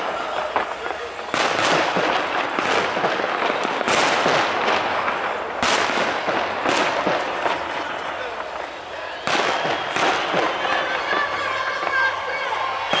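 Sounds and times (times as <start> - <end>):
fireworks bursting: 0.0 - 13.0
fireworks crackle: 0.0 - 13.0.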